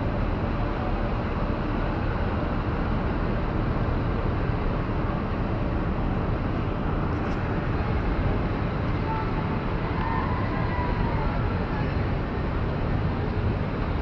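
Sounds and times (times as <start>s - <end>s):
low rumble with hiss: 0.0s - 14.0s.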